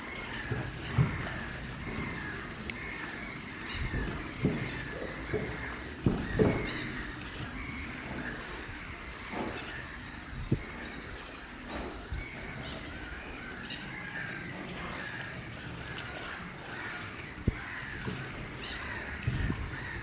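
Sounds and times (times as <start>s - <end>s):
wetland birds calling: 0.0s - 20.0s.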